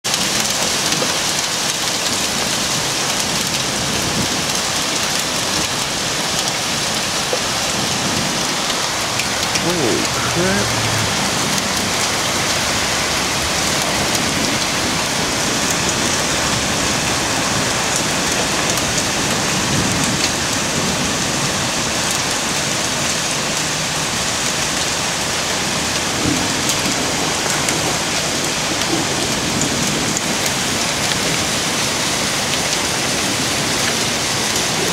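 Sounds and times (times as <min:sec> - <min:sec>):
hail on cars and pavement: 0:00.0 - 0:34.9.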